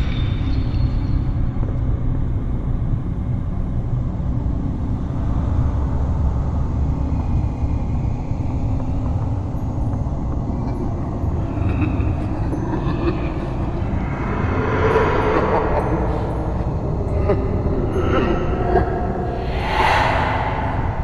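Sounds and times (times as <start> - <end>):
spooky low rumble ambience: 0.0 - 21.0.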